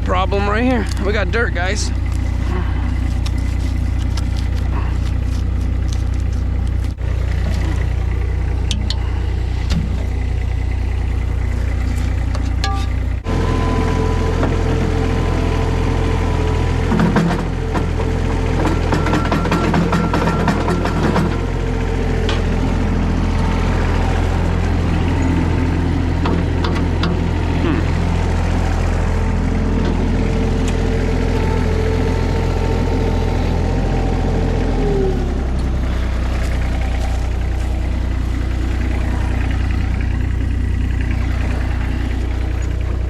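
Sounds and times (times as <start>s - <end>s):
small engine idling: 0.0s - 43.0s.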